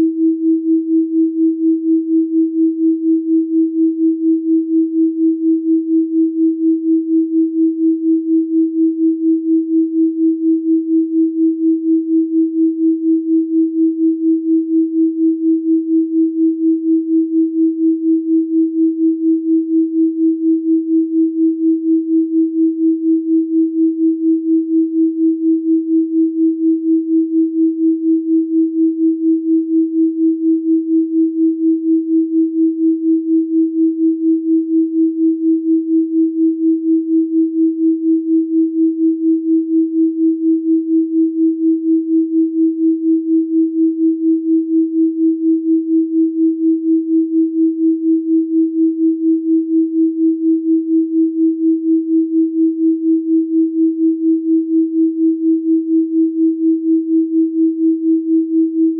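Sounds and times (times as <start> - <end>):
pulsing sine tone: 0.0 - 58.9.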